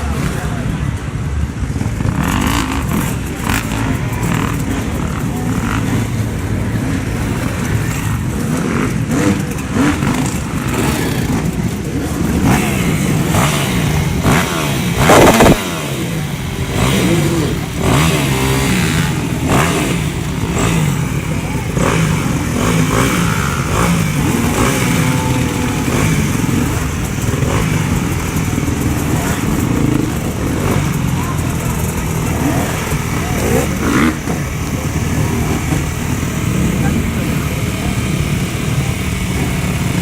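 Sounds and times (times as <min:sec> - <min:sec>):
motorcycle engines revving: 0:00.0 - 0:40.0.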